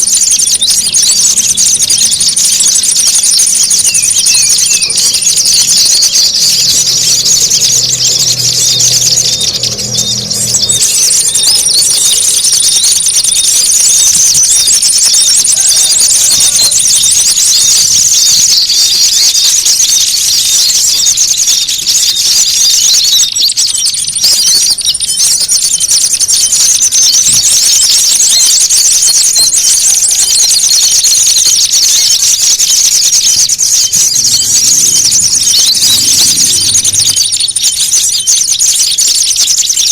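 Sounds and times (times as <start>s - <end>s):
small birds chattering calls: 0.0s - 39.9s.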